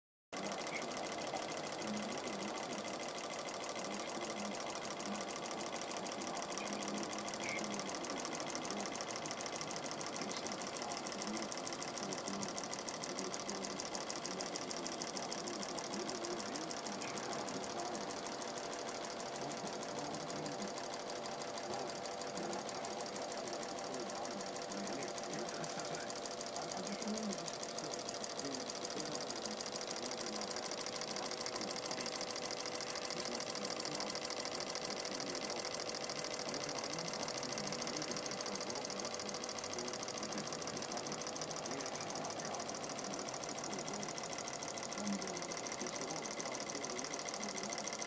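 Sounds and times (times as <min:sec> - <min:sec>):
solenoid motor rapid ticking: 0:00.3 - 0:48.0.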